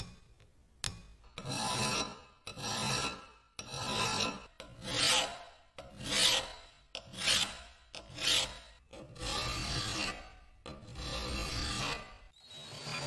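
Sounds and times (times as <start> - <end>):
hand file rasping on metal: 1.4 - 13.0.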